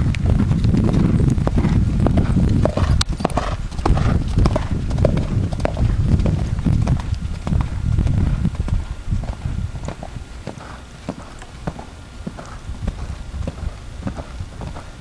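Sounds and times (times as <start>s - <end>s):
horse hooves cantering on sand: 0.0s - 15.0s
low rumble: 0.0s - 15.0s.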